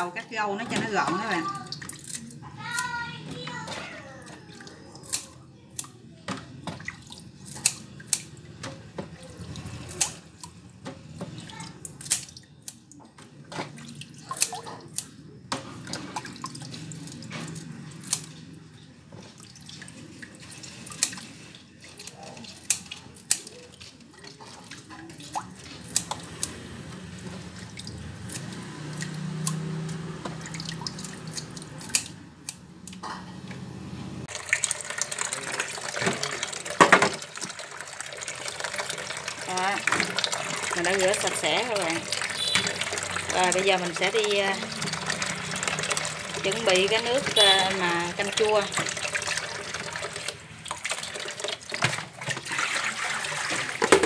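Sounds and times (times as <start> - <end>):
water splashing and dripping: 0.3 - 33.1, 34.3 - 54.0.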